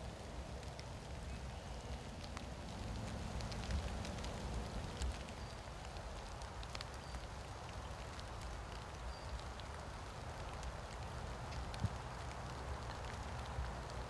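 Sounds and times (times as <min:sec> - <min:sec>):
low rumble of wind: 0:00.0 - 0:14.0
light ticks: 0:00.1 - 0:14.0.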